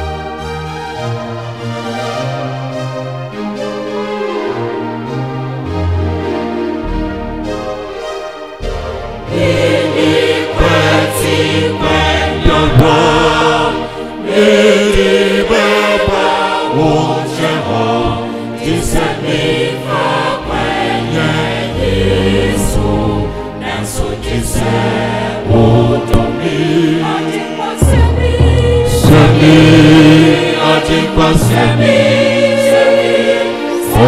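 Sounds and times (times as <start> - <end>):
keyboard: 0.0 - 34.0
choir singing a hymn: 3.9 - 34.0.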